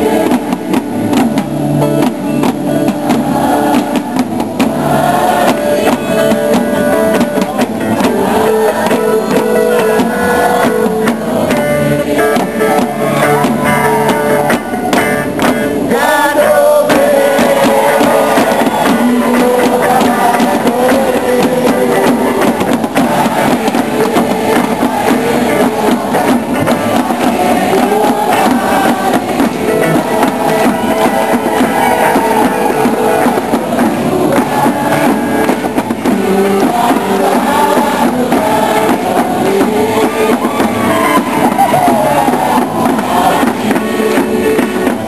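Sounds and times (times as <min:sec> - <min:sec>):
hand drums beating: 0:00.0 - 0:45.0
voices singing: 0:00.0 - 0:45.0.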